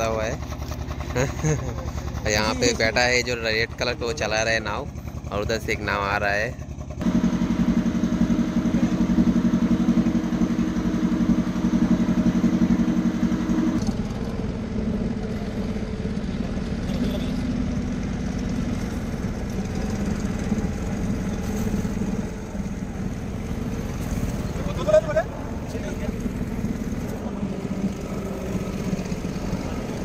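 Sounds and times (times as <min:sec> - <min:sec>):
small engine humming: 0:00.0 - 0:30.0.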